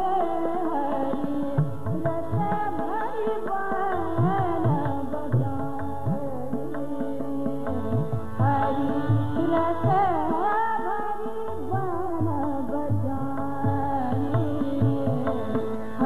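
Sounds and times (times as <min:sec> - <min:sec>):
tabla drum strokes: 0:00.0 - 0:16.0
tanpura drone: 0:00.0 - 0:16.0
woman singing devotional song: 0:00.0 - 0:16.0.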